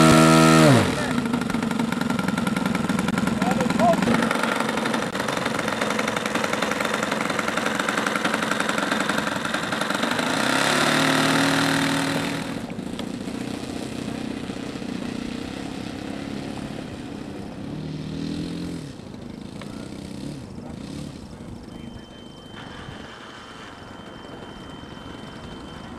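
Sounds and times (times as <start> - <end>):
model airplane engine running: 0.0 - 25.9.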